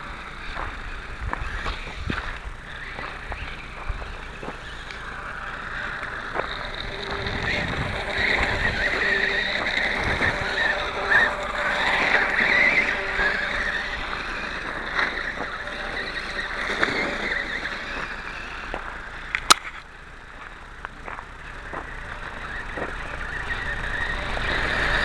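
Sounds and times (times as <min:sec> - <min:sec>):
toy motorcycle motor whining: 0:00.0 - 0:25.0
tyres on the ground: 0:00.0 - 0:25.0.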